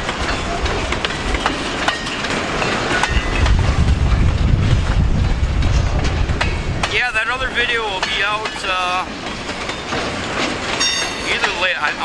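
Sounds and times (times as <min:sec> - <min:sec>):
train clicks and clanks: 0:00.0 - 0:12.0
train wheels rumbling on rail: 0:00.0 - 0:12.0.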